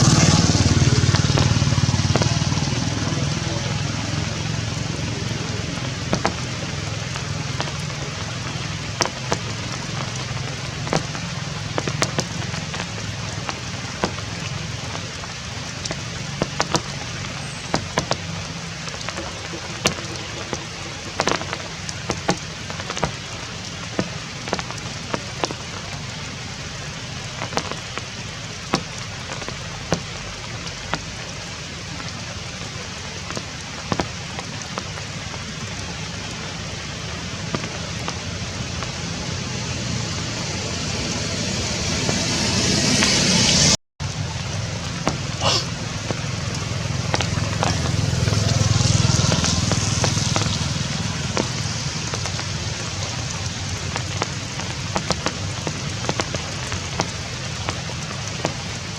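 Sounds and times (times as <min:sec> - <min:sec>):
drops ticking on surfaces: 0:00.0 - 0:39.0, 0:44.0 - 0:58.9
steady rain falling: 0:00.0 - 0:58.9.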